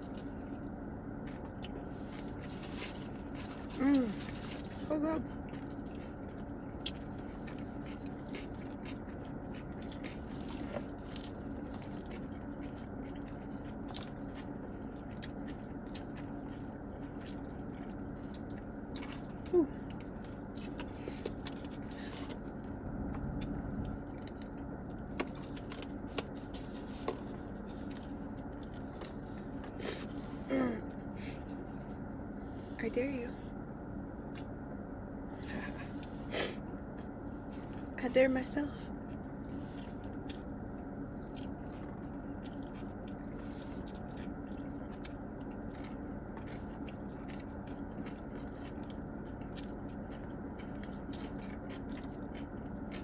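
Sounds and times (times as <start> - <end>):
chewing and biting burger: 0.0 - 30.2, 35.5 - 38.0, 38.9 - 53.0
low hum inside car: 0.0 - 53.0.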